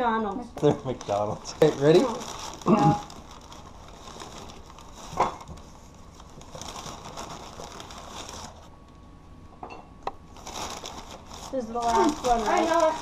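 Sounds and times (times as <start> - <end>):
faint handling sounds: 0.3 - 9.0, 10.1 - 13.0.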